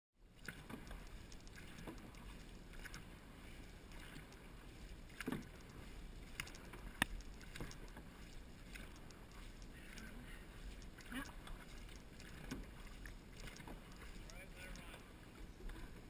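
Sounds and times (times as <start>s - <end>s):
paddles splashing in water: 0.2s - 16.0s.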